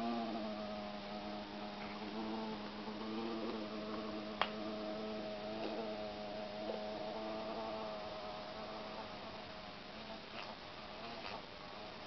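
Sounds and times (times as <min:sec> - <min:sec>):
buzzing hum: 0:00.0 - 0:12.0.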